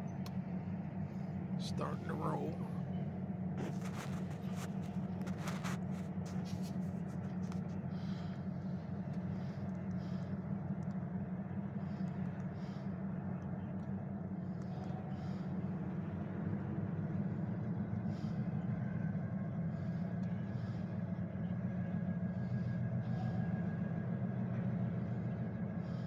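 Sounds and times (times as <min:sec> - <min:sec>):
engine rumble: 0:00.0 - 0:26.0.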